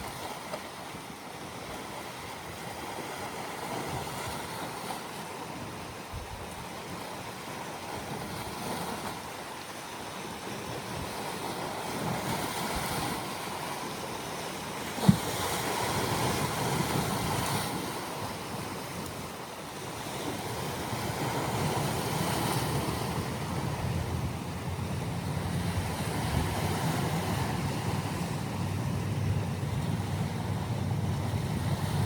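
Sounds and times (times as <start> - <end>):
sea waves washing on shore: 0.0 - 32.0.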